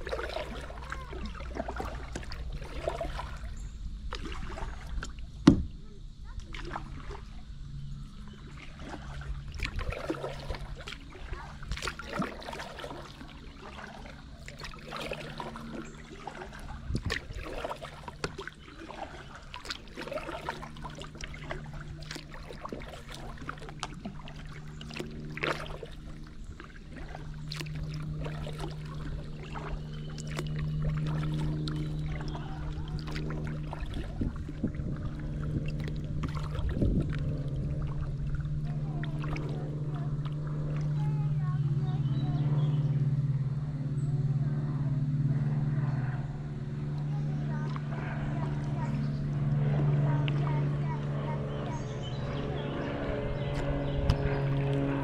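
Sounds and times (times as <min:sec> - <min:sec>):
paddle water splashing and dripping: 0:00.0 - 0:55.0
steady low hum: 0:00.0 - 0:55.0.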